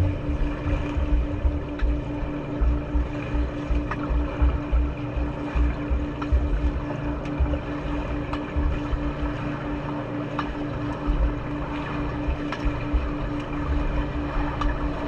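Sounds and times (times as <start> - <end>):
pulsing hum: 0.0 - 15.0
rumbling water: 0.0 - 15.0.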